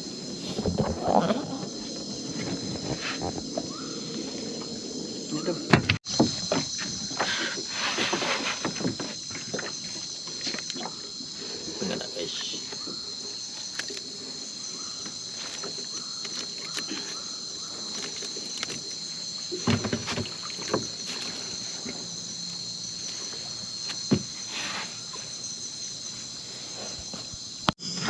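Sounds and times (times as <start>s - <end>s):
high insect chorus: 0.0s - 28.0s.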